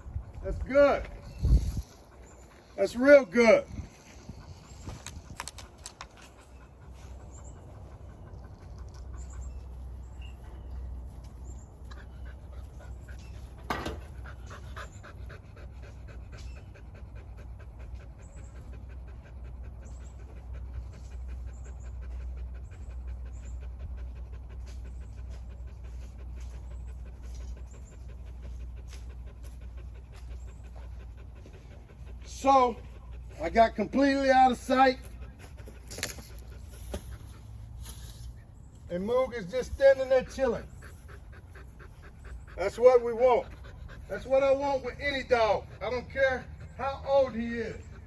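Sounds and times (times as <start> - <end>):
puppy panting: 0.0 - 48.0.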